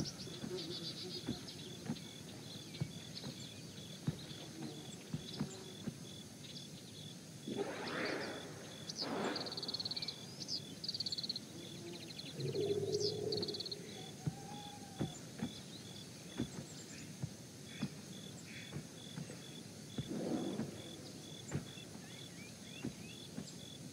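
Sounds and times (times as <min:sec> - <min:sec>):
birds chirping: 0:00.0 - 0:23.9.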